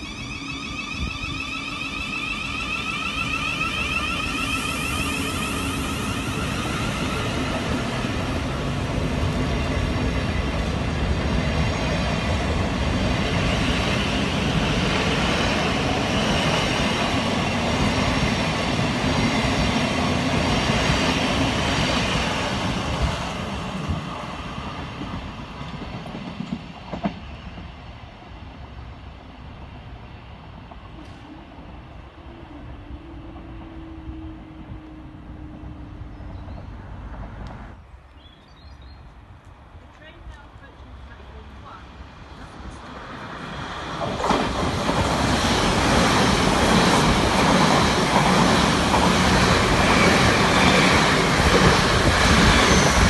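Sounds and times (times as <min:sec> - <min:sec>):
train wheels on track: 0:00.0 - 0:38.3, 0:39.1 - 0:53.0.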